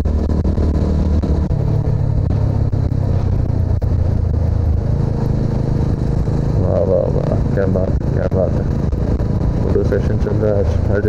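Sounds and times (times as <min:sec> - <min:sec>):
motorcycle engine riding: 0:00.0 - 0:11.0.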